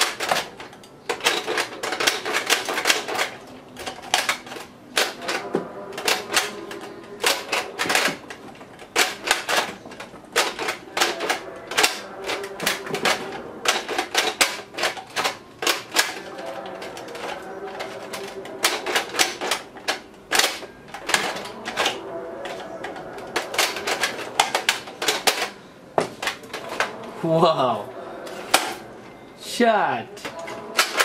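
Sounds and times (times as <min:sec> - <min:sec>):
plastic clicking and clattering: 0:00.0 - 0:27.2, 0:28.2 - 0:28.9, 0:30.1 - 0:31.0.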